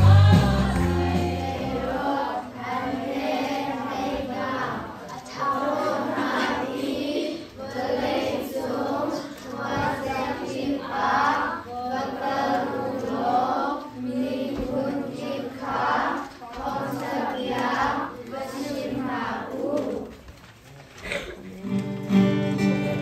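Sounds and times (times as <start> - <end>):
children's choir singing: 0.0 - 20.3.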